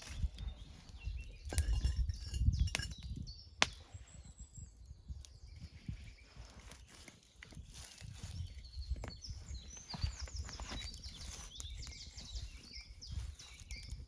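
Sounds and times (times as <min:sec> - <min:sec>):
small birds chirping: 0:00.0 - 0:14.0
wind rumble on microphone: 0:00.0 - 0:14.0.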